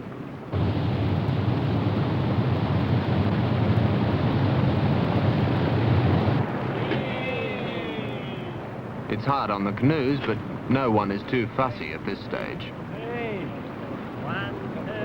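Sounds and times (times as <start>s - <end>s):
waterfall roaring: 0.5s - 15.0s.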